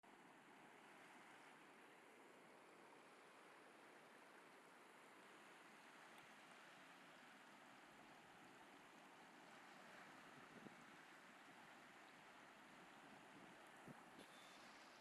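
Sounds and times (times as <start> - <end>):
ocean surf on a beach: 0.4 - 15.0.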